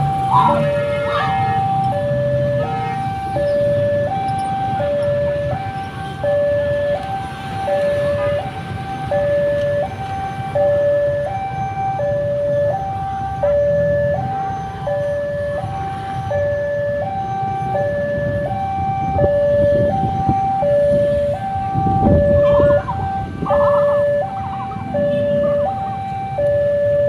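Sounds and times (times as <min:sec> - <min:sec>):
level crossing two-tone alarm: 0:00.0 - 0:27.0
traffic rumble: 0:00.0 - 0:27.0.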